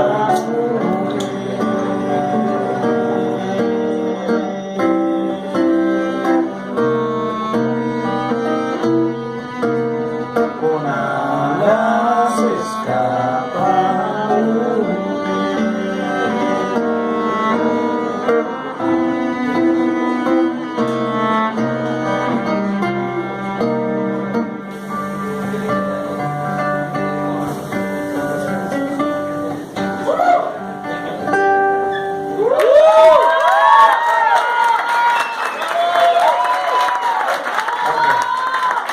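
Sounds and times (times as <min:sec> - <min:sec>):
plucked guitar: 0:00.0 - 0:33.0.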